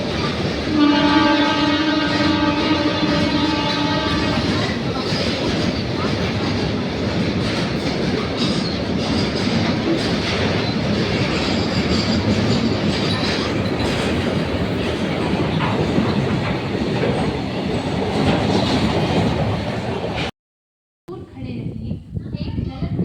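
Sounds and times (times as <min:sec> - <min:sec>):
train wheels clattering over rails: 0:00.0 - 0:20.3.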